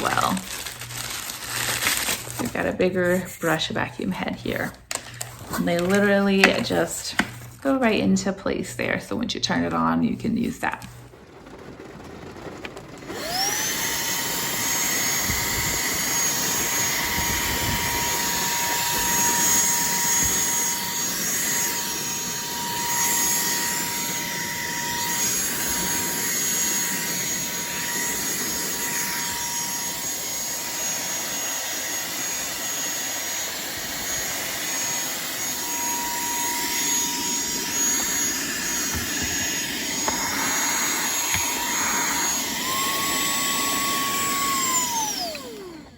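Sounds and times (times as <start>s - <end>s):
handheld vacuum running: 0.0s - 45.9s.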